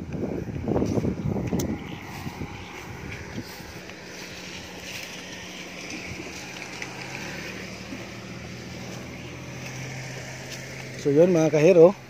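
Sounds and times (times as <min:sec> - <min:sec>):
vehicle engine passing by: 0:00.1 - 0:12.0.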